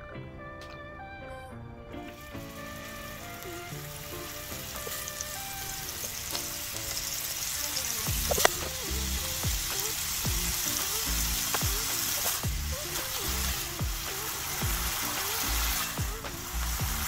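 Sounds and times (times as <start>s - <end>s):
melodic background music: 0.0s - 17.0s
food sizzling in oil: 2.1s - 17.0s.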